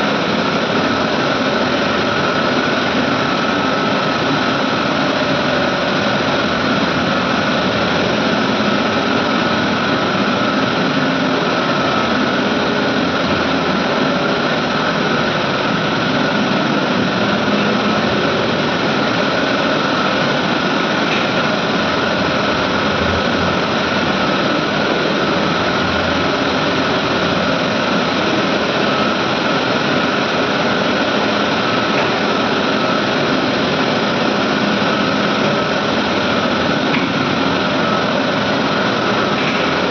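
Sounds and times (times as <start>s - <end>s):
air compressors running: 0.0s - 39.9s.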